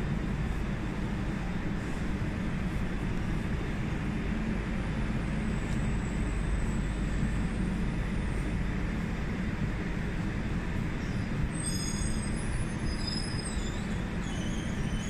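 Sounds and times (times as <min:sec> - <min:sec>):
train low rumble and hum: 0:00.0 - 0:15.0.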